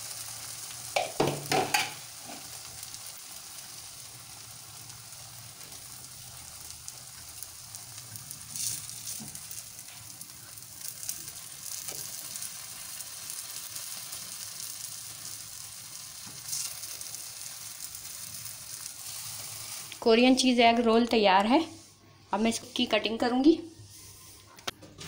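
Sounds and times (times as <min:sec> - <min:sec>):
egg sizzling in hot oil: 0:00.0 - 0:20.6.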